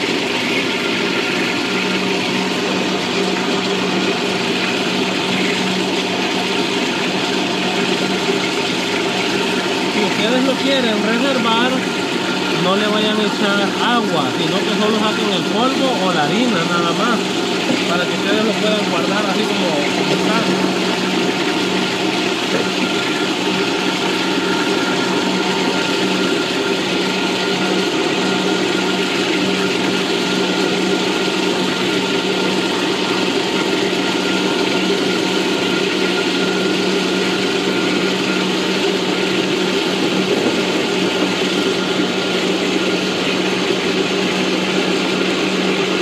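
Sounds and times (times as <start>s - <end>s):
grain mill grinding with hum: 0.0s - 46.0s.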